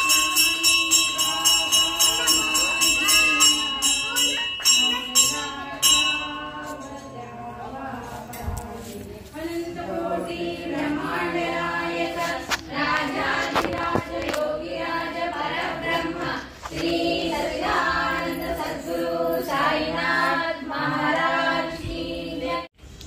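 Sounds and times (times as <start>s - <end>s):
group singing a chant: 0.0s - 3.4s, 4.6s - 22.8s.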